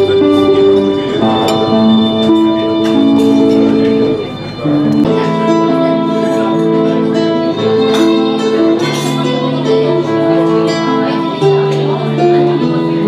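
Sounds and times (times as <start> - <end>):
violin melody: 0.0 - 12.8
plucked guitar: 0.0 - 13.0.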